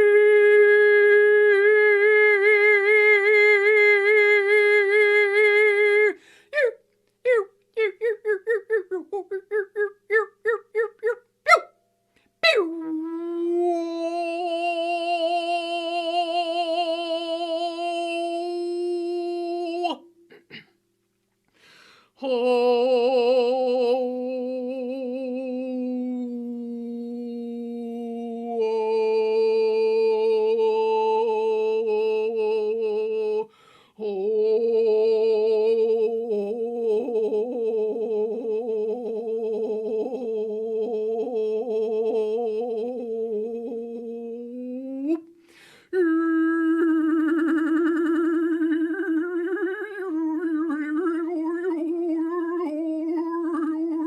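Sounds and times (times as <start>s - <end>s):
person humming long held notes: 0.0s - 11.1s, 12.4s - 20.1s, 22.2s - 54.0s.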